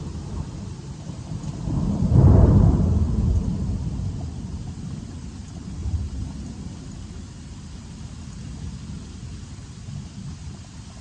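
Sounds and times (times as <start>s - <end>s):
thunder rumbling: 0.0s - 10.7s
rain and hail hissing: 0.0s - 11.0s.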